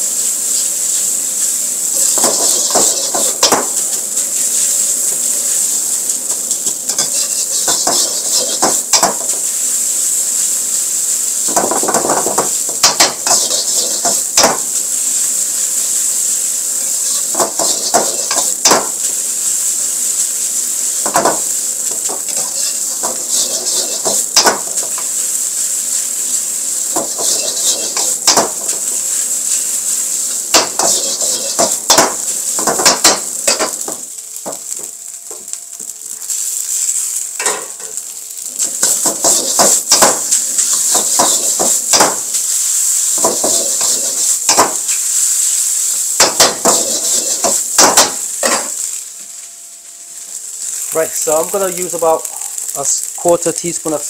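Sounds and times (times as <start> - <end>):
rice sizzling in a wok: 0.0 - 54.0.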